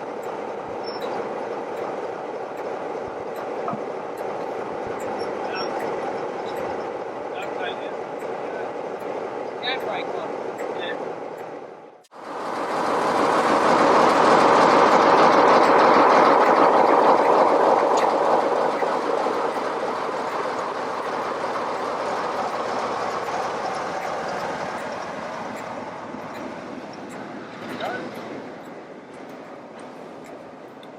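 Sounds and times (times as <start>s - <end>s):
train running on track: 0.0s - 30.9s.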